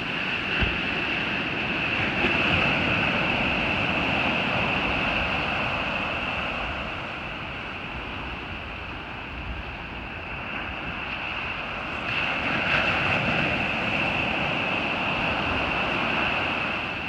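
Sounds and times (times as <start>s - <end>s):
surf washing onto a beach: 0.0s - 17.0s.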